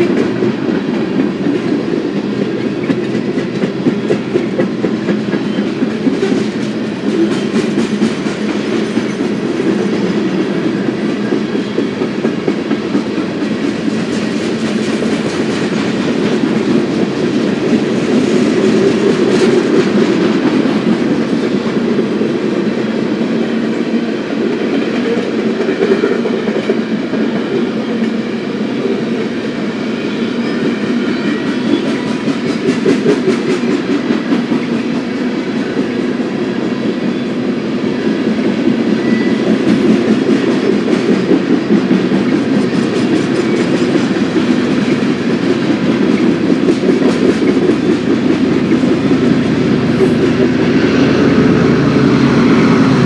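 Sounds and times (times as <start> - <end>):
freight train wheels rumbling on rails: 0.0 - 53.0.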